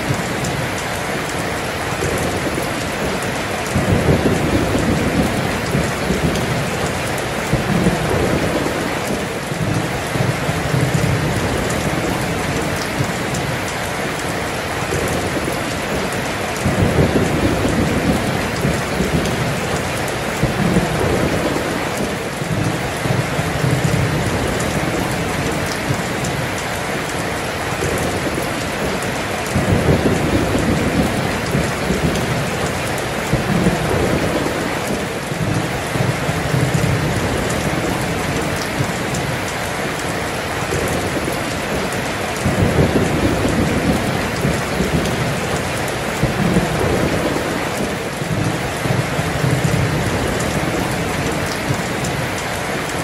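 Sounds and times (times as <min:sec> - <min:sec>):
heavy rain pouring: 0:00.0 - 0:53.0
low rolling thunder: 0:01.4 - 0:26.6, 0:27.6 - 0:52.4.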